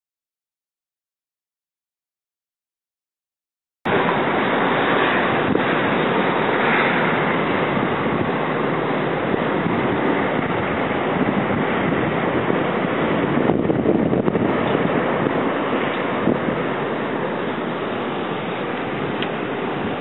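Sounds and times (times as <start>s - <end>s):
blizzard wind blowing on microphone: 3.9s - 20.0s.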